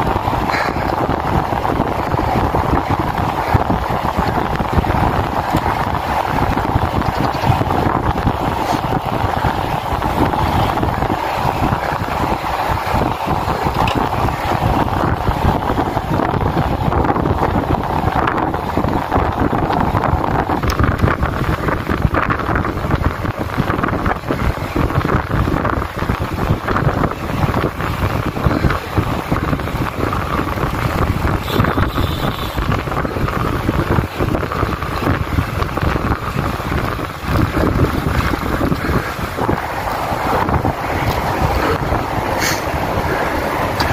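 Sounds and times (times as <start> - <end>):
wind rushing over microphone: 0.0 - 43.9.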